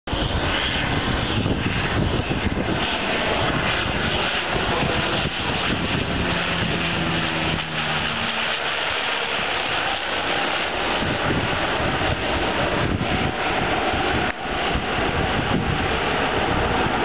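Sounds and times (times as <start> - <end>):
low propeller hum: 0.0 - 17.0
turboprop plane flying overhead: 0.1 - 17.0.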